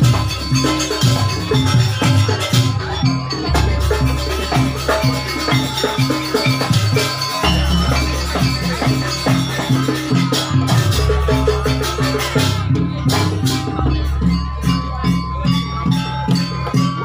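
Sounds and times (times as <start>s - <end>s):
drums and tuned percussion: 0.0s - 17.0s.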